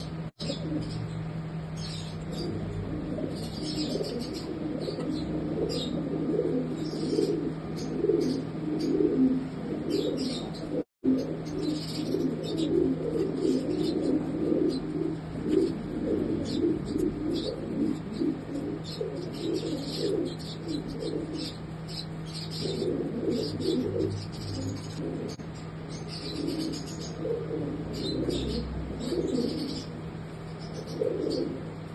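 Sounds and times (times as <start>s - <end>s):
pigeons cooing: 0.0s - 31.9s
steady low hum: 0.0s - 31.9s.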